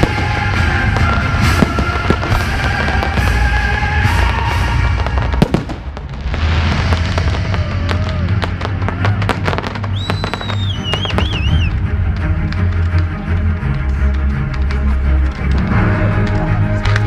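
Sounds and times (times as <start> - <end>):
fireworks bangs and crackling: 0.0 - 17.0
music playing: 0.0 - 17.0.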